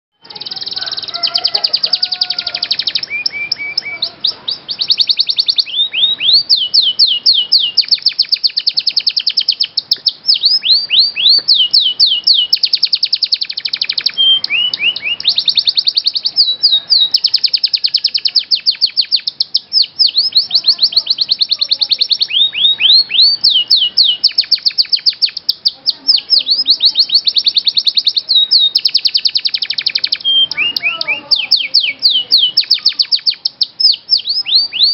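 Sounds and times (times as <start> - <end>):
canary singing trills: 0.2 - 34.9.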